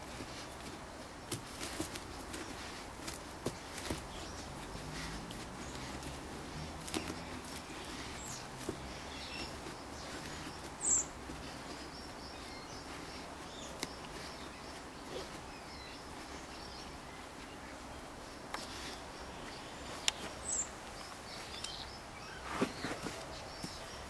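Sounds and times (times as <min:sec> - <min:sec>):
bird chirp: 0:00.0 - 0:24.0
dog paws scraping dirt: 0:00.0 - 0:24.0.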